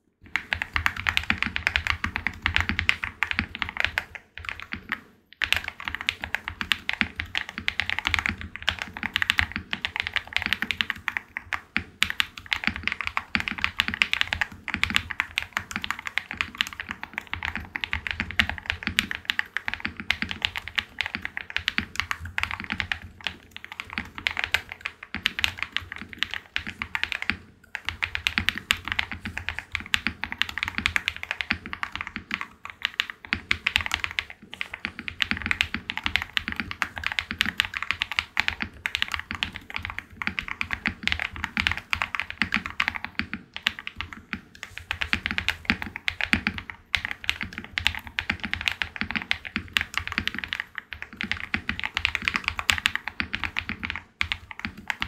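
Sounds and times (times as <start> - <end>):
mechanical keyboard typing: 0.2 - 55.0.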